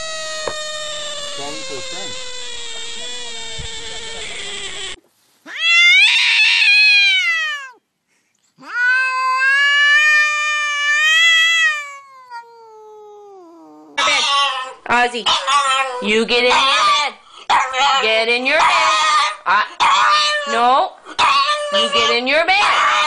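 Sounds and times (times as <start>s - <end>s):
cat yowling: 0.0s - 7.8s, 8.6s - 23.0s.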